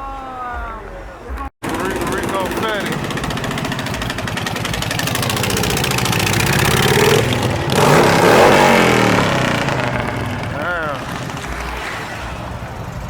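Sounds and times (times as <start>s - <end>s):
car engine revving hard: 1.6s - 13.0s.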